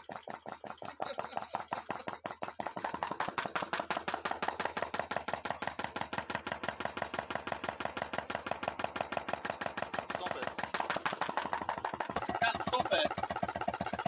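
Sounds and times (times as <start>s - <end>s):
engine mechanism clacking: 0.0s - 14.0s.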